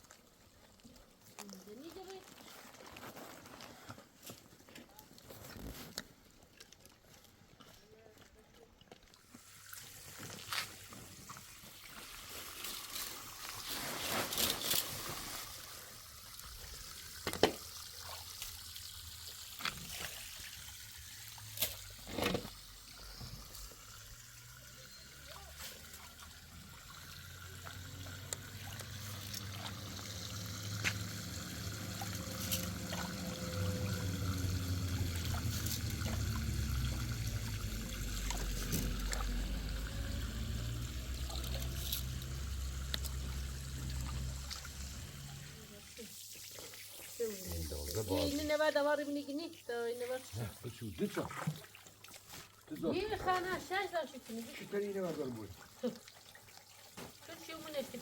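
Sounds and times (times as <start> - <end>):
water trickling and pouring: 5.2 - 58.0.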